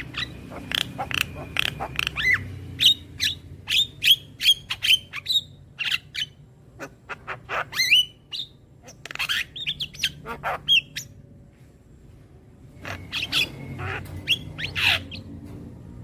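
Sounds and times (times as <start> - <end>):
myna squawks and chirps: 0.0 - 11.2, 12.8 - 15.3.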